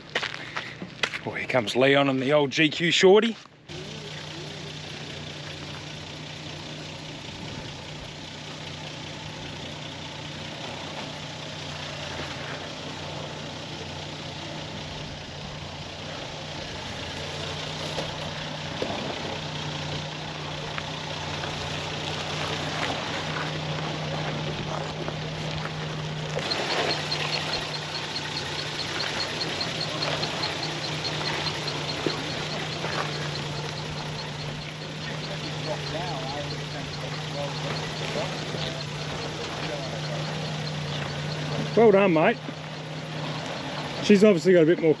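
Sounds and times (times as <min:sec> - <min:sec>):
truck engine at low revs: 0:00.0 - 0:45.0.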